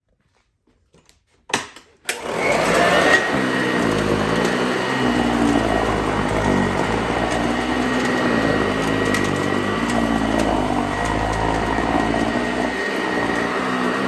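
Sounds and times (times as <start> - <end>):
vacuum cleaner motor running: 2.1 - 14.0.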